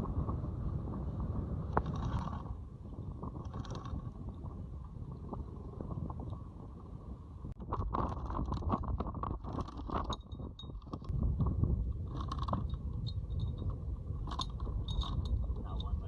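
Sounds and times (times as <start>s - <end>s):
low rumbling wind noise: 0.0s - 16.0s.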